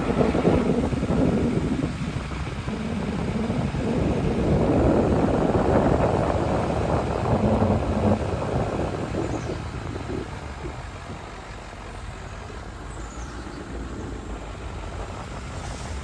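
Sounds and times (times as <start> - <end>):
truck driving on road: 0.0 - 16.0.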